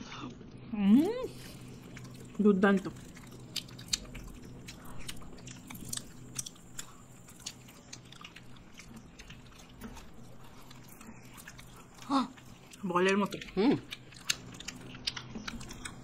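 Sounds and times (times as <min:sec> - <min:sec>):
quiet chewing: 0:00.2 - 0:16.0
small mouth clicks: 0:02.9 - 0:16.0.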